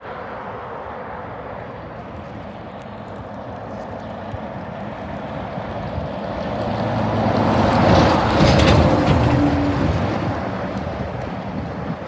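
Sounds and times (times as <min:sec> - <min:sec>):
truck traffic road noise: 0:00.0 - 0:12.0.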